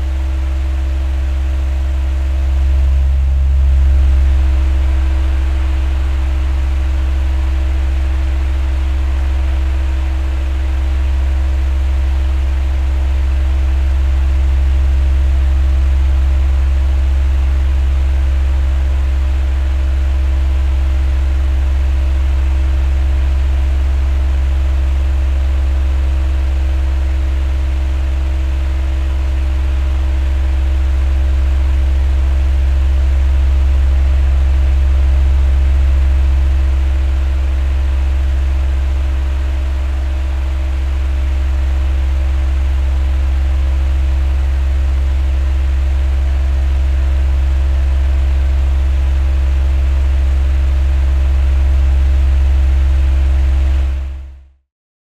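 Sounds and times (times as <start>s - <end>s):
electric fan running: 0.0s - 53.9s.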